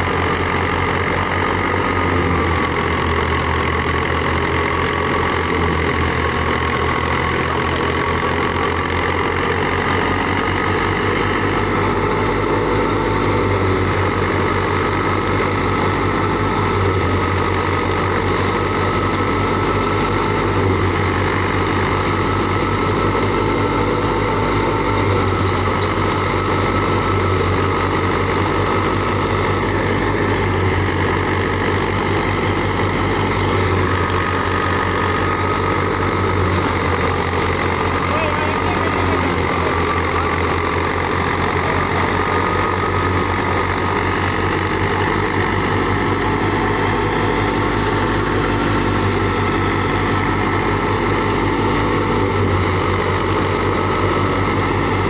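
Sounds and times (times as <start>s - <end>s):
steady high whine: 0.0s - 55.0s
tractor diesel engine running: 0.0s - 55.0s.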